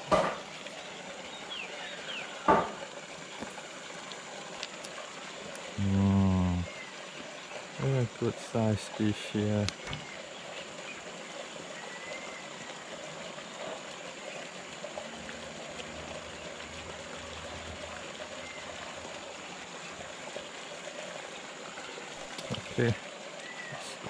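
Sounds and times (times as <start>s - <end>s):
water pouring into a pond: 0.0s - 24.0s.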